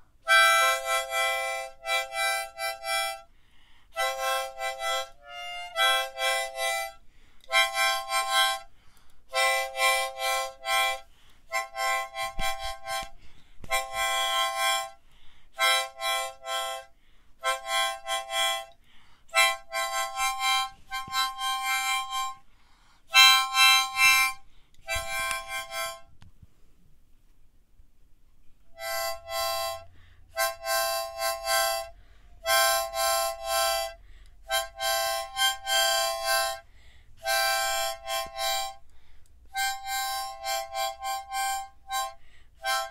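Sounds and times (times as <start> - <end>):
harmonica playing a tune: 0.0 - 26.2, 28.7 - 42.9.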